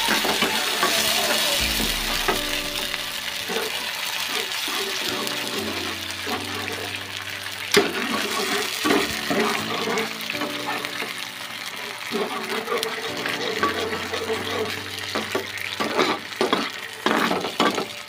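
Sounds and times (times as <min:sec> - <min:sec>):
background music: 0:00.0 - 0:18.0
sauce simmering: 0:00.0 - 0:18.0.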